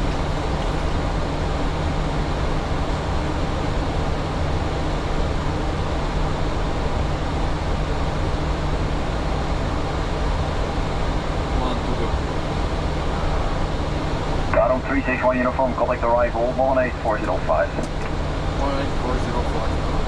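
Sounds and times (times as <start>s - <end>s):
aircraft cockpit rushing noise: 0.0s - 20.0s
constant low hum: 0.0s - 20.0s.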